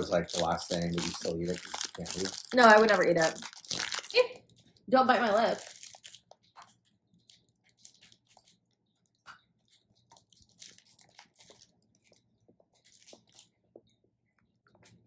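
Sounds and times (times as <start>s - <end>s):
biting and chewing chocolate: 0.0s - 4.9s, 5.5s - 14.0s
plastic wrapper crackling: 0.0s - 8.7s, 9.7s - 13.6s.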